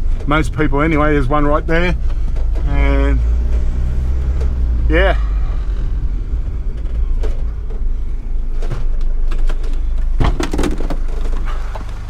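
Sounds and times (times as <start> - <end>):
sharp clunks and rattles: 0.0 - 12.0
van engine rumbling: 0.0 - 12.0.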